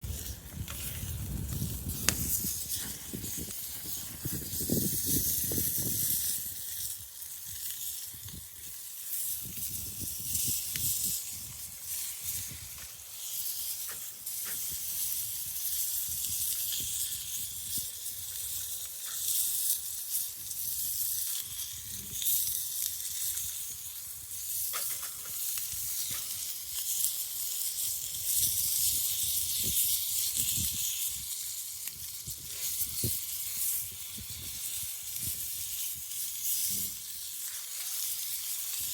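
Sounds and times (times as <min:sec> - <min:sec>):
fire pops and crackles: 0:00.0 - 0:38.9
meat sizzling over a campfire: 0:00.0 - 0:38.9.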